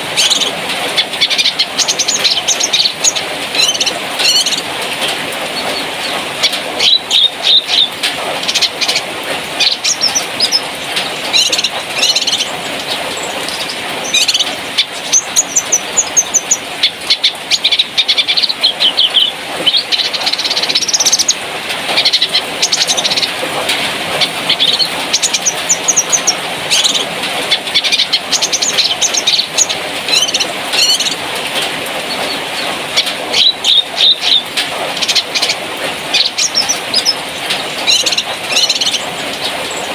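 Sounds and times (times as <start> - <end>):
songbird chirping and trilling: 0.0 - 4.7, 5.6 - 23.4, 24.1 - 31.2, 32.1 - 39.9.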